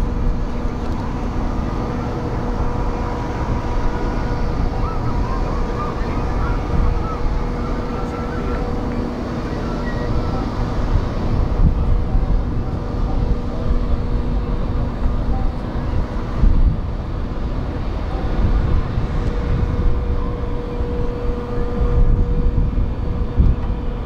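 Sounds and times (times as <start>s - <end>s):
ship engines humming: 0.0s - 24.0s
wind rumbling on microphone: 0.0s - 24.0s.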